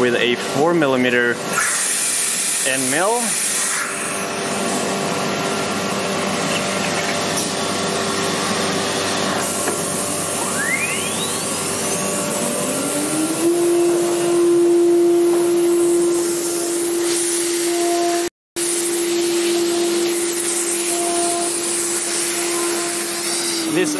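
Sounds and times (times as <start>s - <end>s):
router spindle whine: 2.9s - 23.9s.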